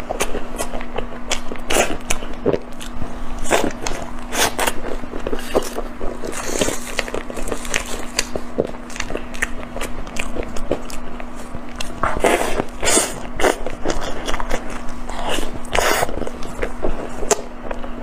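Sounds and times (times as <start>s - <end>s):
biting and chewing: 0.0s - 18.0s.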